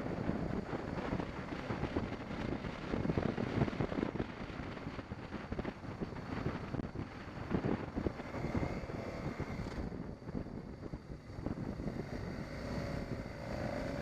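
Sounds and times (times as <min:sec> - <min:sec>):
motorcycle engine and road noise: 0:00.0 - 0:14.0
wind buffeting microphone: 0:00.0 - 0:14.0.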